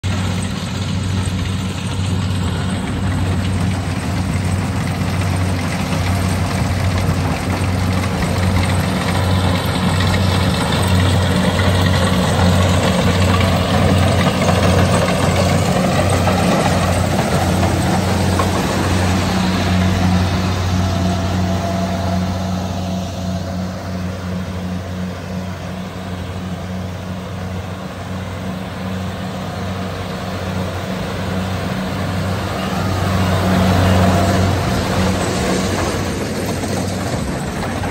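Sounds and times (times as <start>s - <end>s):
combine harvester engine drone: 0.0s - 37.9s
rush of working machinery: 0.0s - 37.9s.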